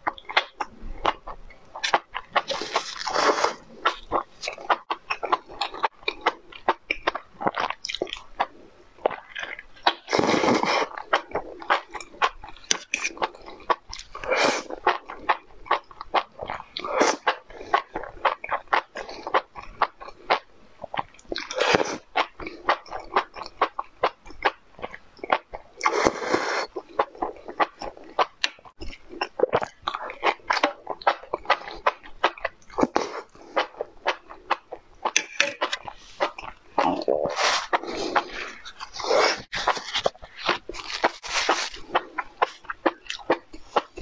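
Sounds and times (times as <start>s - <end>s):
wet chewing: 0.0s - 44.0s
slurping: 0.1s - 44.0s.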